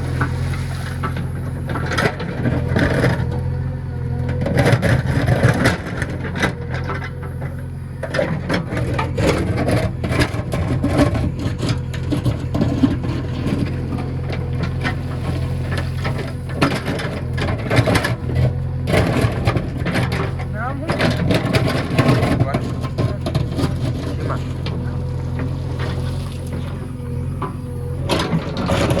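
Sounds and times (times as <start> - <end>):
diesel engine running: 0.0 - 29.0
knocks and scrapes in soil: 0.0 - 29.0.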